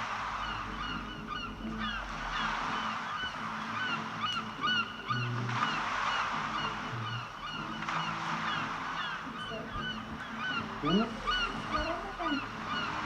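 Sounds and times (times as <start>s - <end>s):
birds chirping: 0.0s - 13.0s
low sliding bird calls: 0.0s - 13.0s.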